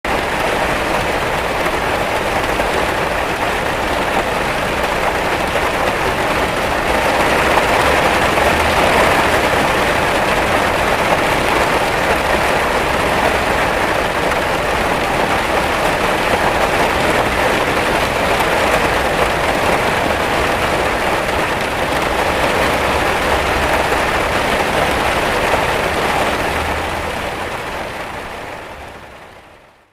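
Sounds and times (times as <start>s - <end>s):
heavy rain on a window: 0.1s - 29.9s.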